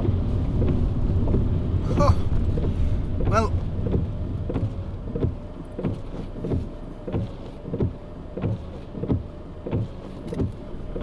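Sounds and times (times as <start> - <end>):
car cabin hum: 0.0 - 11.0
windscreen wipers sweeping: 0.0 - 11.0.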